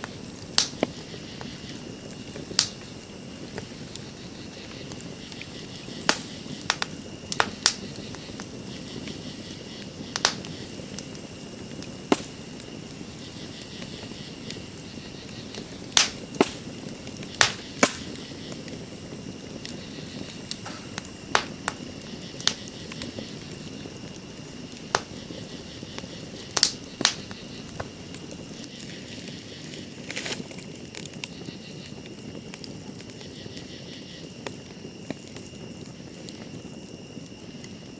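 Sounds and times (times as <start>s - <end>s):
campfire crackling: 0.0s - 37.9s
night insects trilling: 0.0s - 37.9s.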